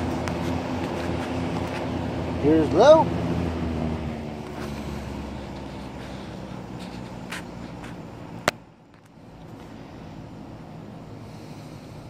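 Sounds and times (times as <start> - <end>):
box fan motor humming: 0.0 - 12.0.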